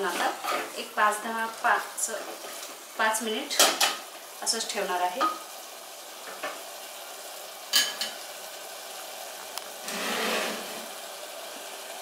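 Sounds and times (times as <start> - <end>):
food simmering and sizzling: 0.0 - 12.0.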